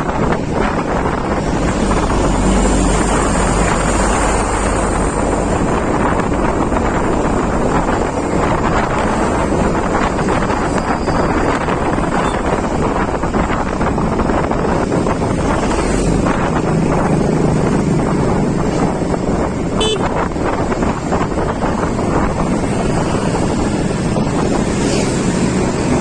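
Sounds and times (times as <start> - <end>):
vehicle and road rumble: 0.0 - 26.0
wind buffeting microphone: 0.0 - 26.0.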